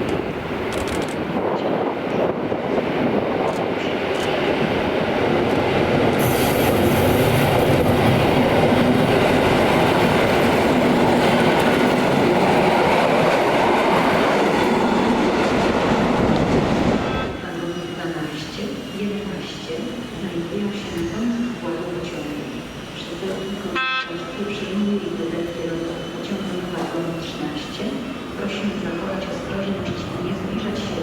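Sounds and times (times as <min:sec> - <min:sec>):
train passing: 0:00.0 - 0:31.0.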